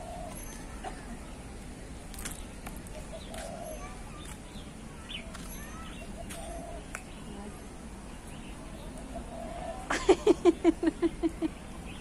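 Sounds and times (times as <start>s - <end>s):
low warbling bird calls: 0.0s - 1.4s, 2.3s - 10.7s
birds chirping: 0.0s - 12.0s
steady low background noise: 0.0s - 12.0s.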